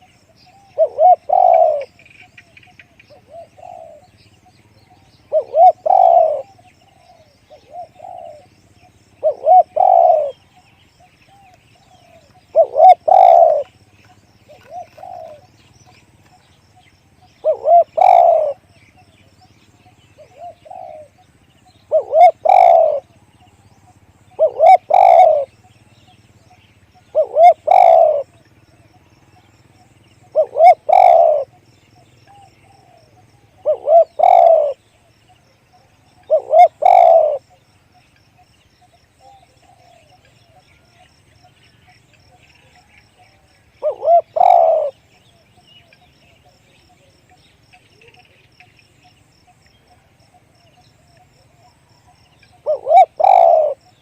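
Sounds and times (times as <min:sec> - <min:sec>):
dove cooing: 0:00.0 - 0:16.5, 0:17.1 - 0:37.6, 0:39.2 - 0:41.0, 0:42.2 - 0:47.1, 0:49.9 - 0:54.0.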